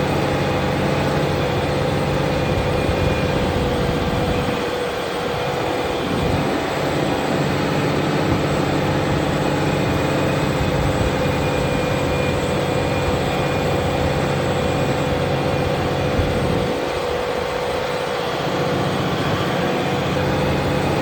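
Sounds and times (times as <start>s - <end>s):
tractor engine drone: 0.0s - 21.0s.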